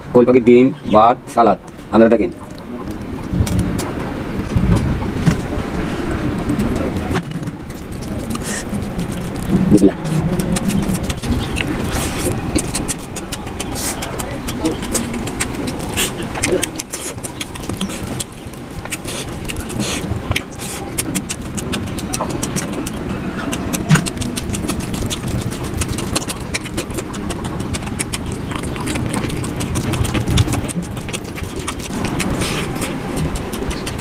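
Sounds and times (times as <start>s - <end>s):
wet chewing and lip smacking: 1.6s - 34.0s
fingers squelching food: 6.4s - 34.0s.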